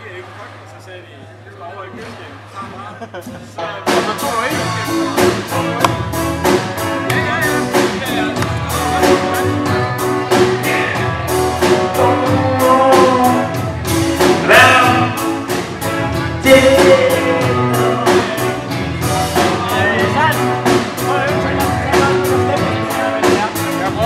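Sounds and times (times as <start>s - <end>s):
steady drum beat: 2.6s - 24.0s
live band playing: 3.2s - 24.0s.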